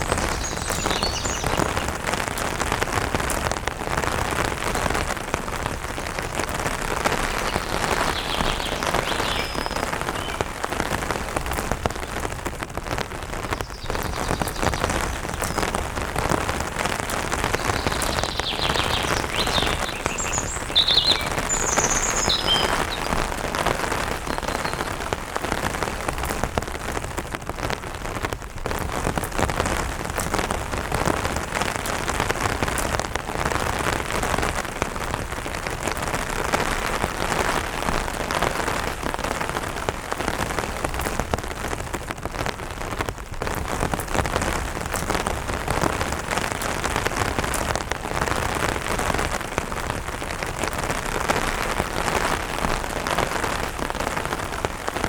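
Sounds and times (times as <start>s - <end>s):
light rain on an umbrella: 0.0s - 55.0s.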